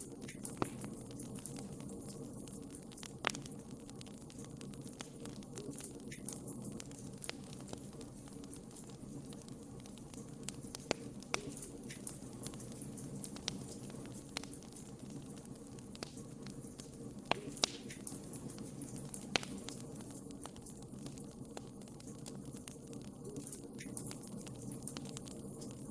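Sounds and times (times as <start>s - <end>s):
low rumble of burning logs: 0.0s - 25.9s
wood fire crackling: 0.0s - 25.9s.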